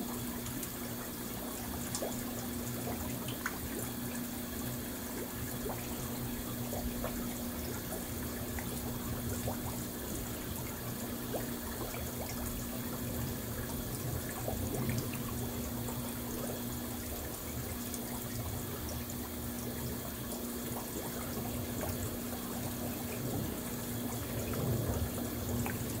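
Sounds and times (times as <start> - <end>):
steady low hum: 0.0 - 26.0
water churning and splashing: 0.0 - 26.0.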